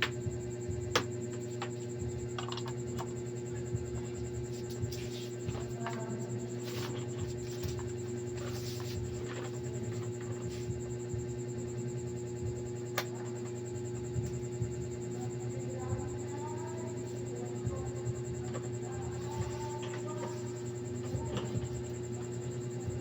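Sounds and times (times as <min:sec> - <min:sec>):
electrical motor hum: 0:00.0 - 0:23.0.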